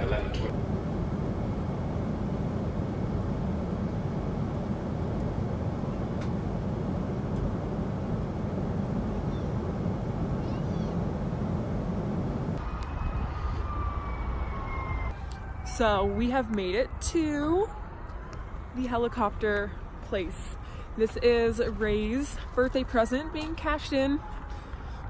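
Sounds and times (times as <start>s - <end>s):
airliner cabin drone: 0.0s - 25.0s.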